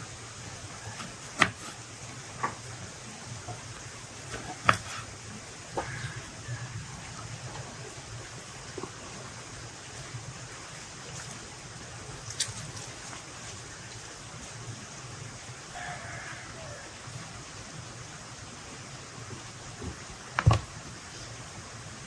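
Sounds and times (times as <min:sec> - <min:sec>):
rain hiss: 0:00.0 - 0:22.0.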